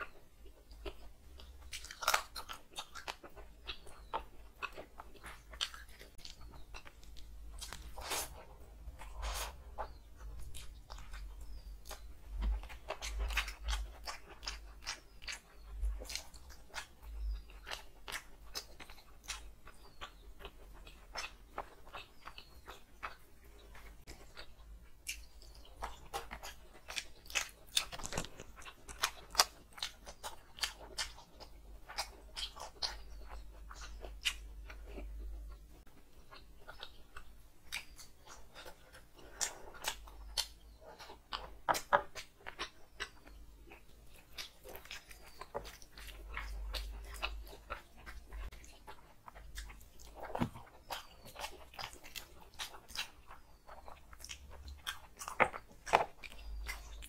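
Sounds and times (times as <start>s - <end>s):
chewing with wet smacking: 0.0s - 57.0s.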